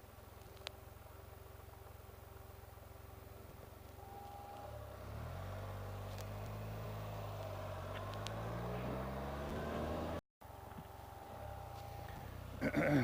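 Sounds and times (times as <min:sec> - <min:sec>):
motorcycle engine accelerating: 0:00.9 - 0:13.0.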